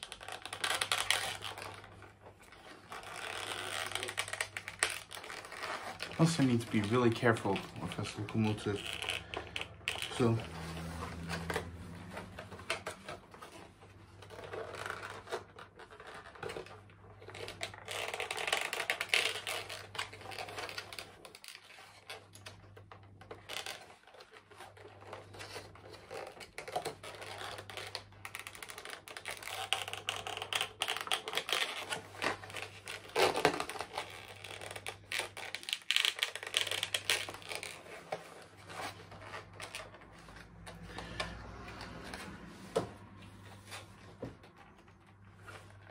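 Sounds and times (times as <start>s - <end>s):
packaging rustling and scraping: 0.0s - 45.9s.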